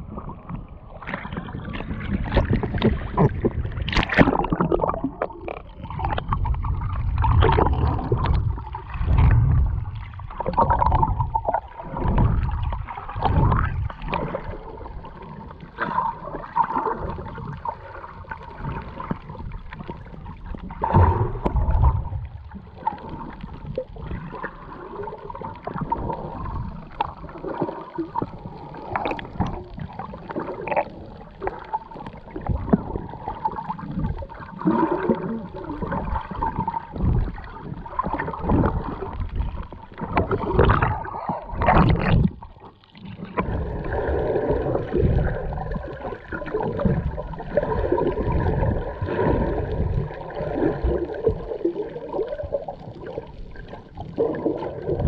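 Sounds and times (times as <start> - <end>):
underwater rushing and gurgling: 0.0 - 55.0.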